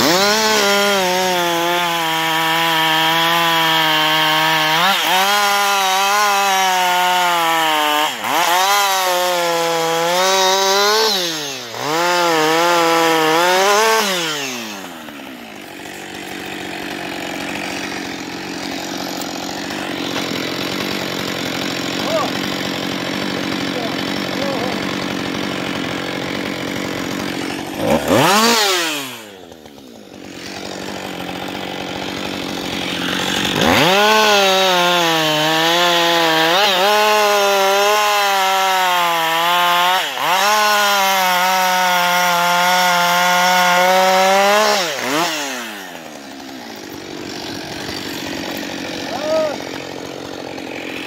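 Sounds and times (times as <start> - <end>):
chainsaw cutting a log: 0.0 - 51.0
chainsaw idling: 0.0 - 51.0.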